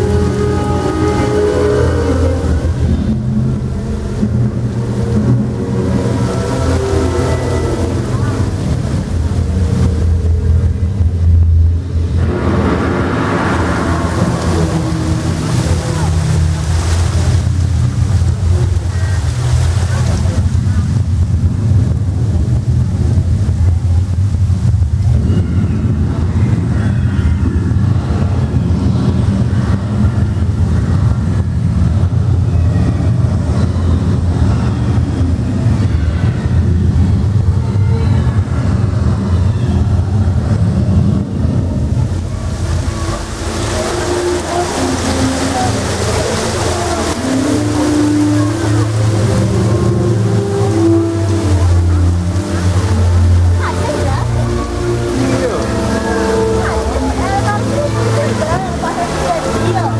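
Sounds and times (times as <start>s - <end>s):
ride train rumbling: 0.0s - 59.9s
rushing hissing noise: 0.0s - 59.9s.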